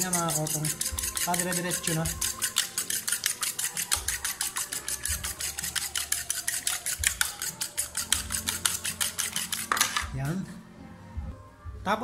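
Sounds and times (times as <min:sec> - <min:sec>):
fork whisking eggs in plastic bowl: 0:00.0 - 0:10.5.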